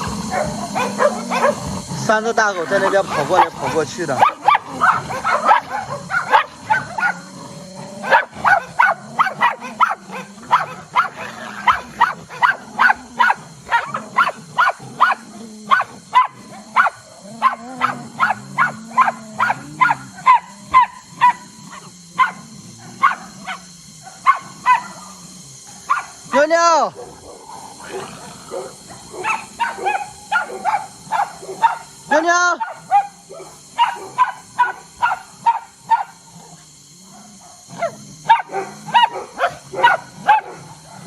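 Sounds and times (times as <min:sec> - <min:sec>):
dogs barking: 0:00.0 - 0:41.0.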